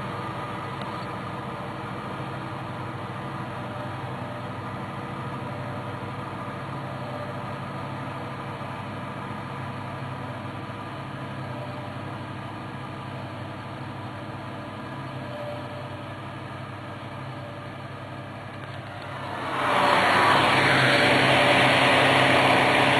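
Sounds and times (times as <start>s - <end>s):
large engine droning: 0.0s - 22.9s.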